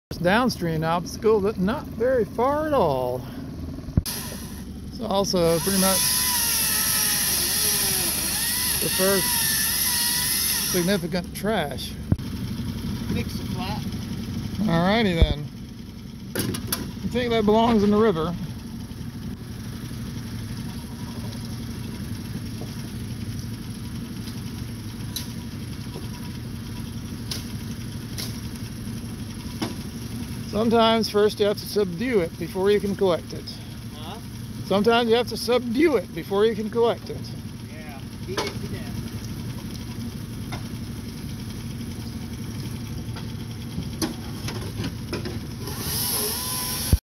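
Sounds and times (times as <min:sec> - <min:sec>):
outboard motor idling: 0:00.1 - 0:47.0.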